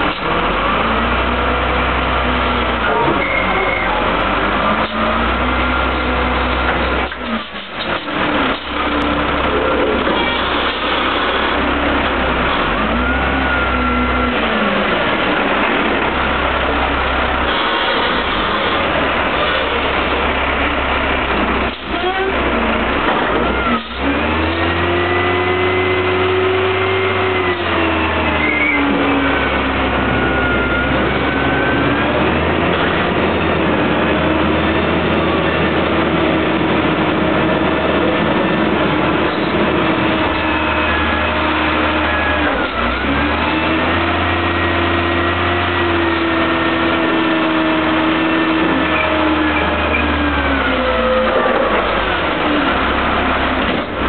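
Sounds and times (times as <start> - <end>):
garbage truck diesel engine revving: 0.0 - 54.0.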